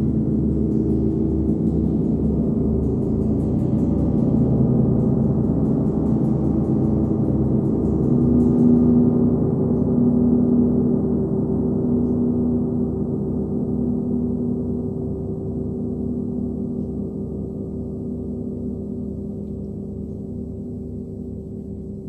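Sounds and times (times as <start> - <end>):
wind gong ringing with low hum: 0.0 - 22.0.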